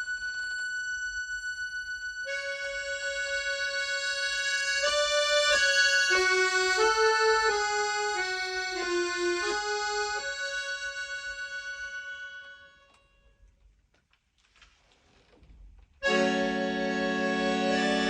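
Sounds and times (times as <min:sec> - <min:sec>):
accordion-like melody: 0:00.0 - 0:13.0, 0:16.0 - 0:18.0.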